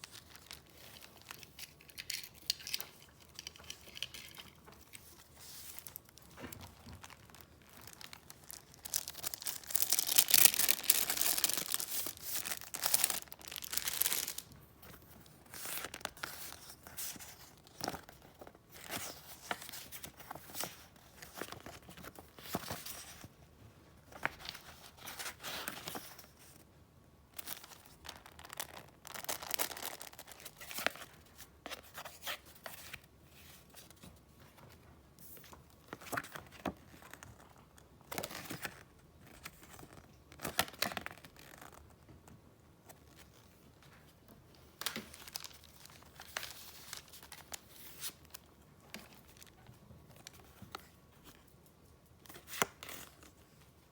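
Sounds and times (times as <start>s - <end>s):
paper crinkling and rustling: 0.0s - 23.4s, 27.4s - 42.1s, 42.9s - 51.5s.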